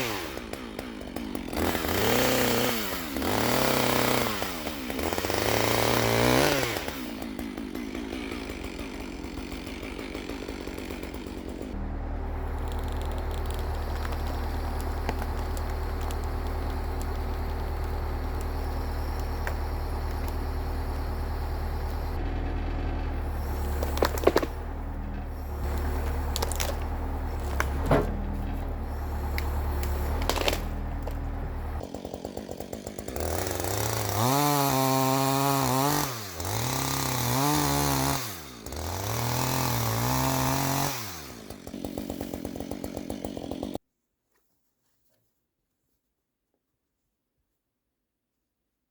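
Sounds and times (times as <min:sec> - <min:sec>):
chainsaw idling and revving: 0:00.0 - 0:43.8.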